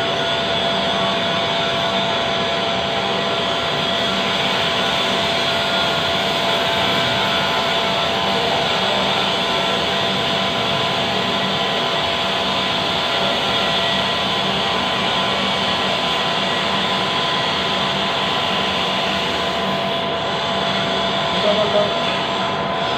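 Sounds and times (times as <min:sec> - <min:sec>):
lathe whirring: 0:00.0 - 0:22.9.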